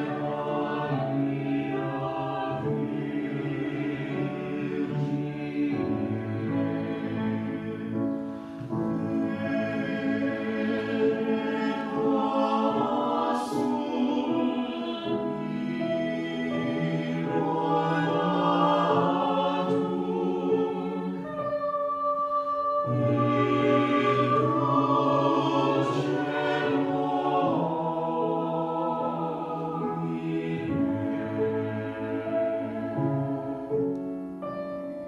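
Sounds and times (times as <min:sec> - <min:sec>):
choir singing: 0:00.0 - 0:34.1.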